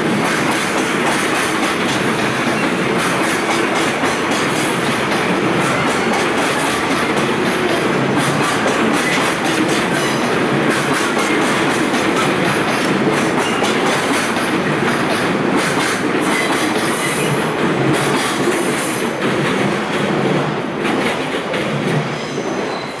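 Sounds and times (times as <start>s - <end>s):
train wheels clattering over joints: 0.0s - 23.0s.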